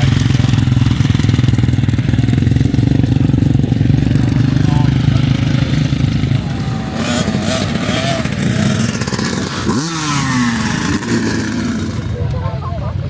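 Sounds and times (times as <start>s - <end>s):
motorcycle engine revving: 0.0s - 13.0s
motorcycle engines running: 0.0s - 13.0s.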